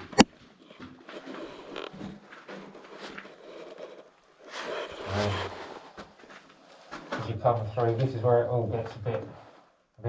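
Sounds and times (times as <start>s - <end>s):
soft footsteps: 0.0s - 9.6s.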